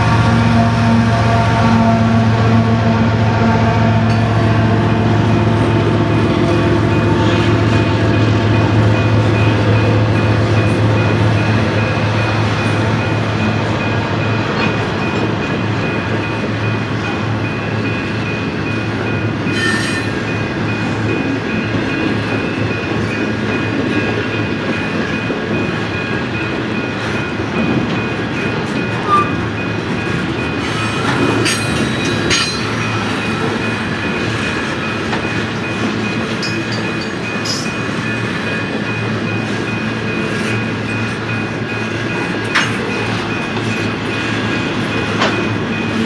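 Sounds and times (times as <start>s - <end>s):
freight train wheels rumbling: 0.0s - 46.0s
train cars clanking: 0.0s - 46.0s.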